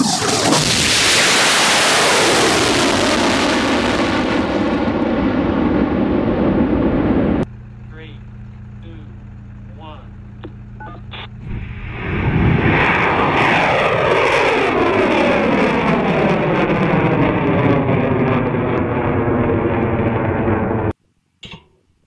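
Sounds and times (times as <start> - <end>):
rocket engine roar: 0.0 - 21.0.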